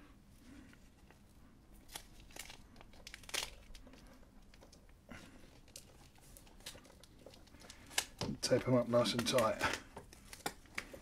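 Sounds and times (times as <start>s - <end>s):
cables and tape rustling: 0.3s - 11.0s.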